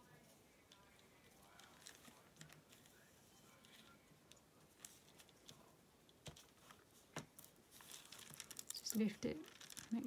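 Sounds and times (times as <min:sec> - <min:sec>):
rustling fabric and paper: 0:00.0 - 0:10.0.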